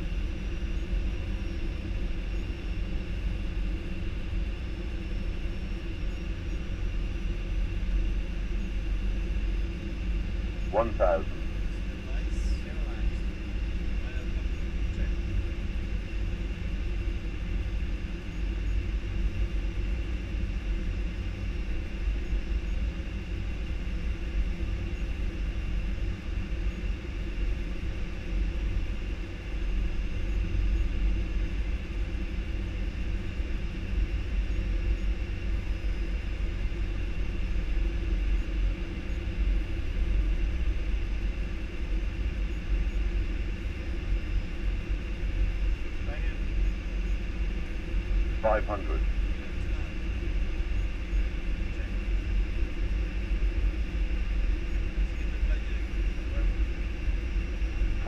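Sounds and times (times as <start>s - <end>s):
airliner cockpit rumble: 0.0s - 58.0s.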